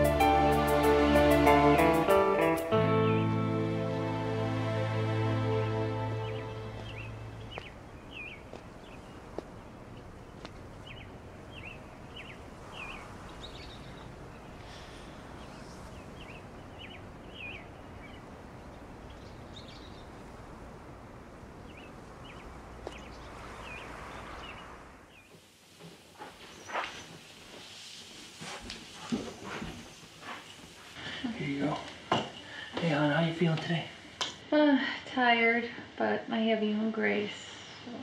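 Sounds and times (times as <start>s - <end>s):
birds chirping: 0.0s - 25.5s, 26.2s - 33.8s
outdoor background noise: 0.0s - 38.0s.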